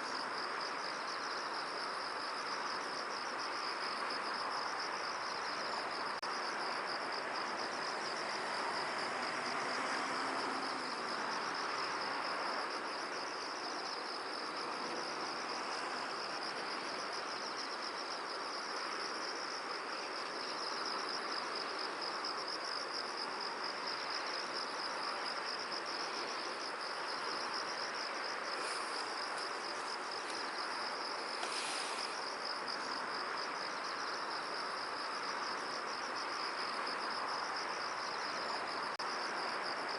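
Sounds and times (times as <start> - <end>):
high insect trill: 0.0 - 39.9
wind in a field: 0.0 - 39.9.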